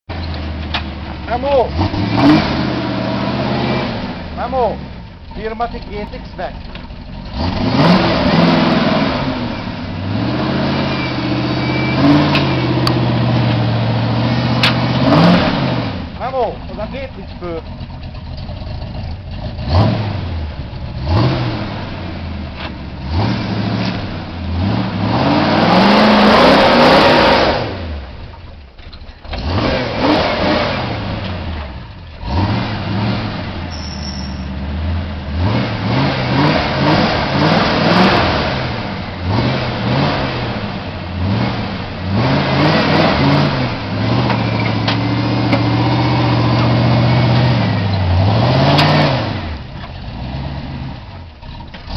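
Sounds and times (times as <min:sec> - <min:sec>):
engine revving under load: 0:00.2 - 0:28.3, 0:29.2 - 0:51.9.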